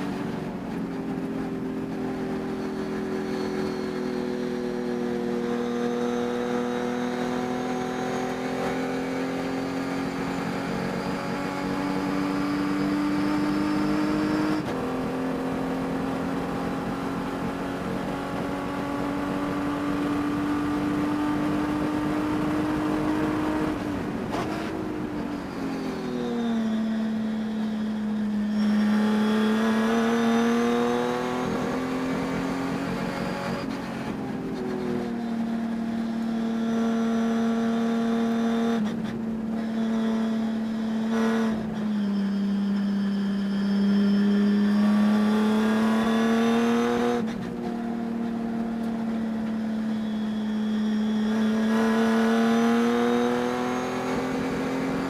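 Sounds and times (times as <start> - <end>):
race engine at high revs: 0.0 - 55.0.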